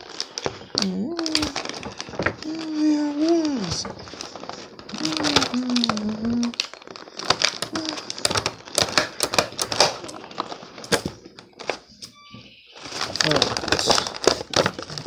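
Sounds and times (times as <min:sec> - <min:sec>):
scissors cutting plastic: 0:00.0 - 0:12.1, 0:12.8 - 0:15.0
plastic crackling and crinkling: 0:00.0 - 0:15.0.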